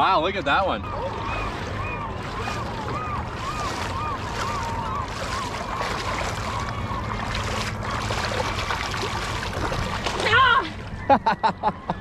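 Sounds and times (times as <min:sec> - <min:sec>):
shallow water moving: 0:00.0 - 0:11.1.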